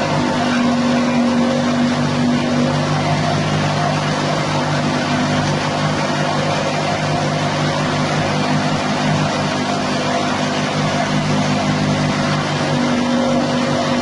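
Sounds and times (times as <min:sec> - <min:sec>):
petrol engine running steadily: 0:00.0 - 0:14.0.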